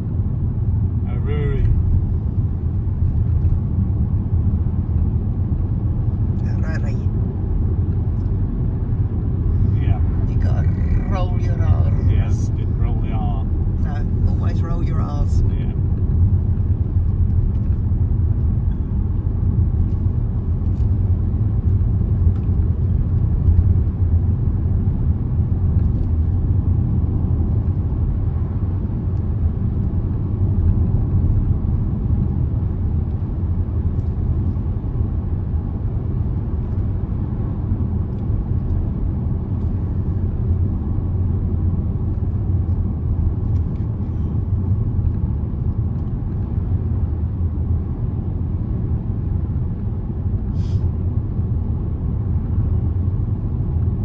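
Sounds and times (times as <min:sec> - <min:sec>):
car interior road rumble: 0:00.0 - 0:54.0.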